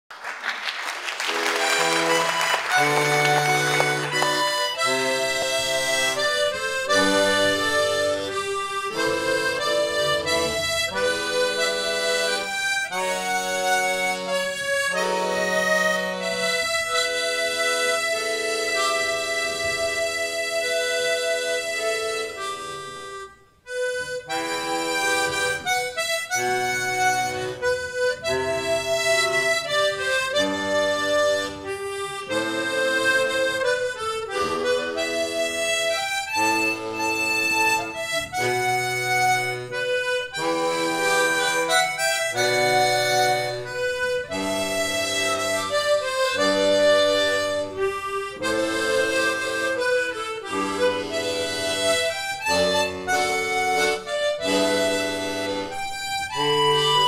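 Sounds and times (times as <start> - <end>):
harmonica ensemble playing: 0.4 - 57.0.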